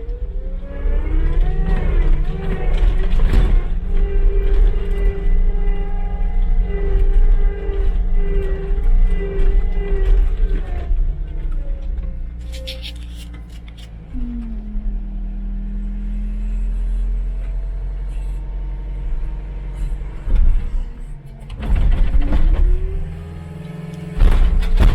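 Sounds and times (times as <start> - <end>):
diesel engine running: 0.0 - 24.9
rough machine working noise: 0.0 - 24.9.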